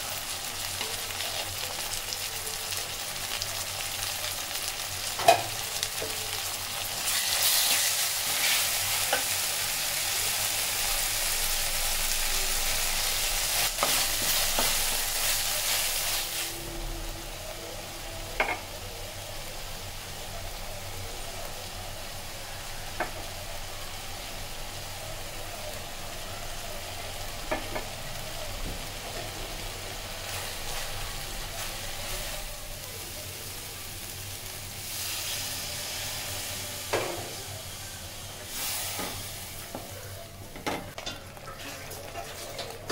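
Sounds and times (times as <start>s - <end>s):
oil sizzling in metal pan: 0.0s - 42.9s.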